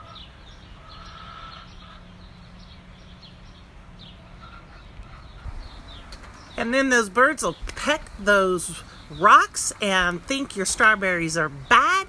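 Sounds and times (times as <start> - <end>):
small birds chirping: 0.0 - 12.0
steady low rumble: 1.7 - 12.0.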